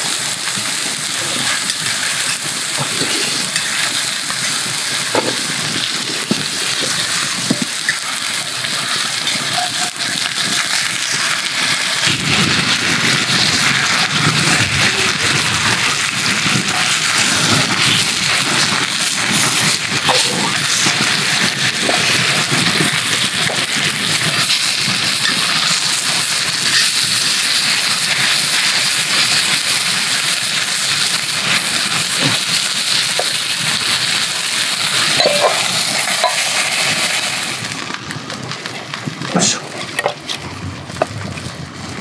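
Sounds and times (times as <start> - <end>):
steaks sizzling in a skillet: 0.0 - 42.0
meat juices spitting and popping: 0.5 - 42.0.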